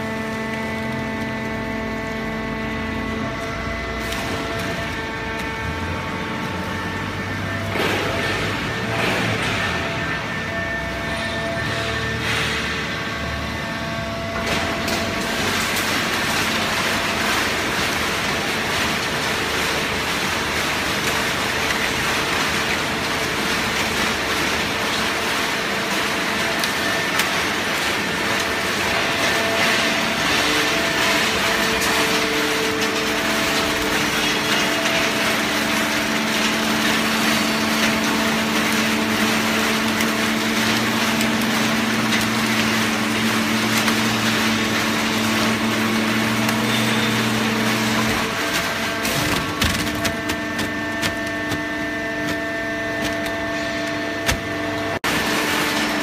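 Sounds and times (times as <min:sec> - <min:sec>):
hydraulic baling press running: 0:00.0 - 0:56.0.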